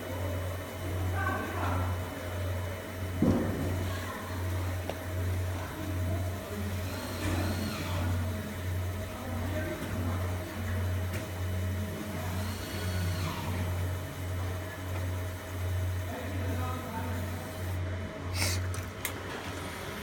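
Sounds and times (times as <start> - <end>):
laser machine low hum: 0.0 - 17.8.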